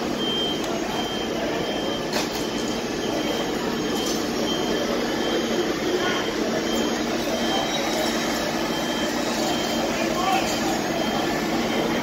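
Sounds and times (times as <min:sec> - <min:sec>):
fire truck engines running: 0:00.0 - 0:12.0.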